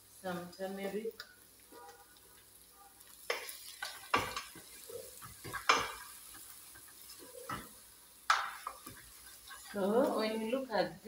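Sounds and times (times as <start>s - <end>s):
low sizzle of frying: 0.0s - 11.0s.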